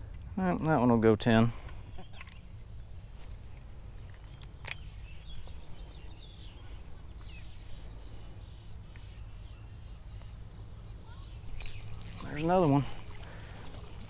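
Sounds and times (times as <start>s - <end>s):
birds chirping: 1.3s - 14.0s.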